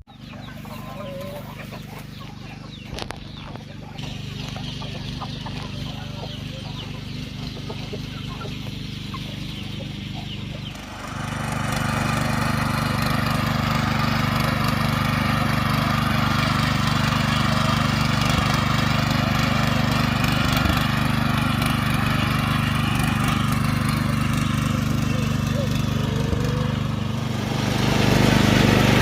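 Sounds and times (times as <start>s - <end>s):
chickens clucking: 0.1s - 29.0s
small petrol engine running: 0.1s - 29.0s.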